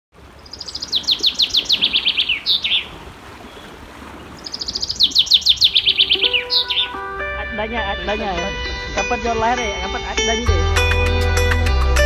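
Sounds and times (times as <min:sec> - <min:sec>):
songbird chirping: 0:00.2 - 0:11.1.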